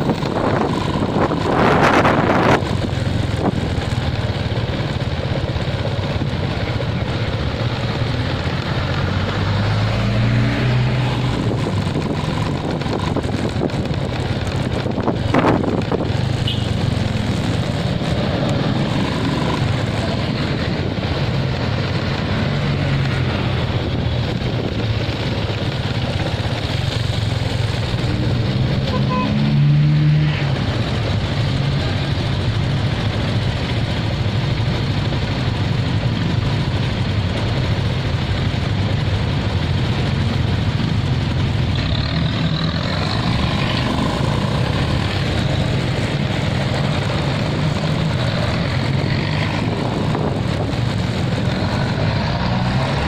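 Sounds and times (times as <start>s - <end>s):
motorcycle engine: 0.0s - 53.0s
road noise: 0.0s - 53.0s.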